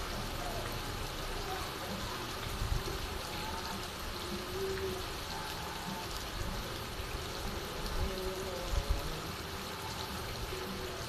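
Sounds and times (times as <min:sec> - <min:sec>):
heavy rain on tiled roof: 0:00.0 - 0:11.0
water pouring off eaves: 0:00.0 - 0:11.0.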